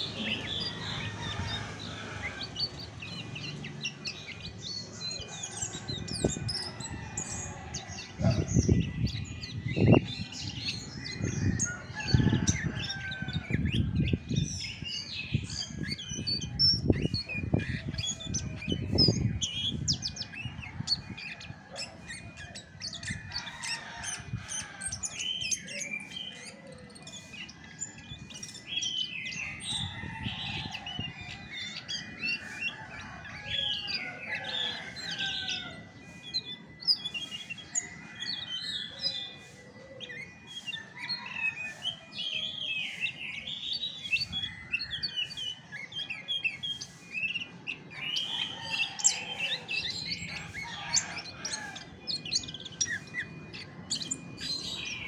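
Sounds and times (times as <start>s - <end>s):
bird singing chirps and whistles: 8.2s - 55.0s.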